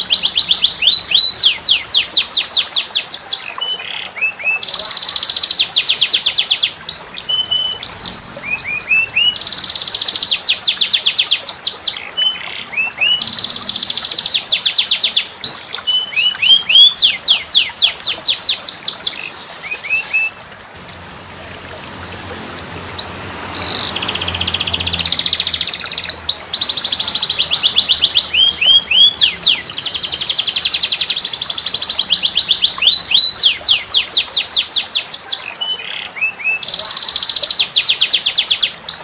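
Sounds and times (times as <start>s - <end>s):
songbird whistles and trills: 0.0s - 20.4s, 23.0s - 39.0s.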